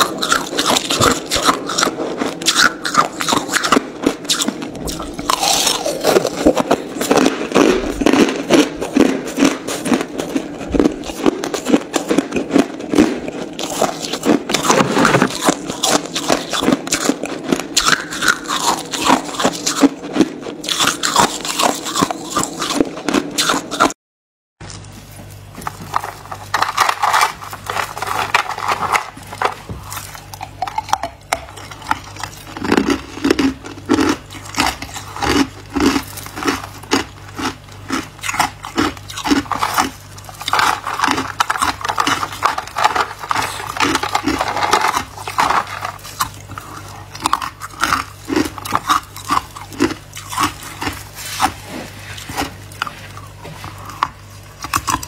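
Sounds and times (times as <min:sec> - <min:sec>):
ice crunching while chewed: 0:00.0 - 0:24.0, 0:24.6 - 0:55.0.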